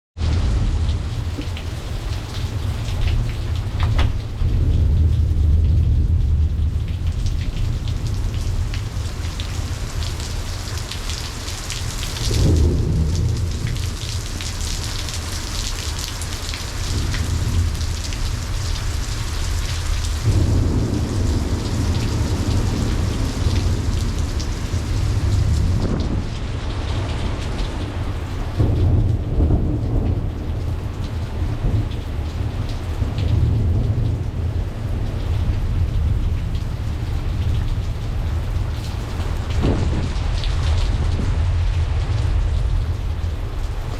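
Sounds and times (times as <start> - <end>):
heavy rain: 0.2 - 43.9
thunder rumbling: 0.2 - 43.9.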